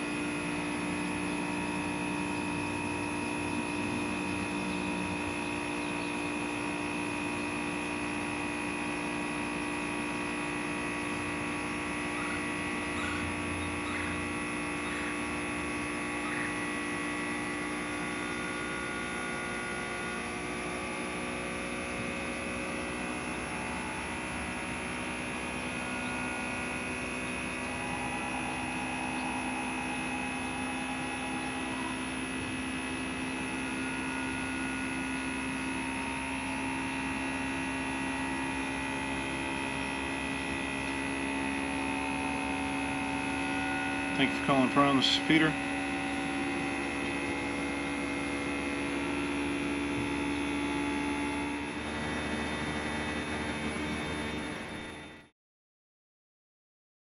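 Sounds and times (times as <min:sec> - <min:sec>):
heat pump humming: 0:00.0 - 0:55.3.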